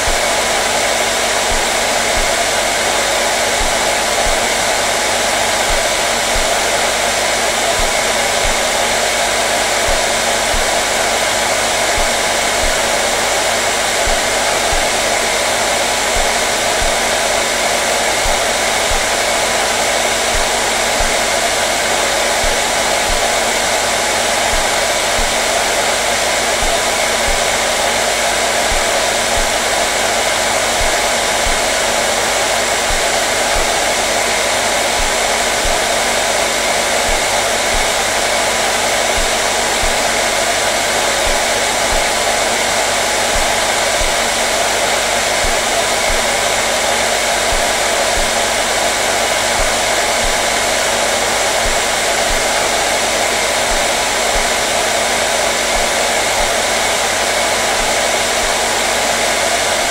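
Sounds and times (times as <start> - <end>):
faint motor hum: 0.0 - 56.8
hair dryer air rush: 0.0 - 59.9.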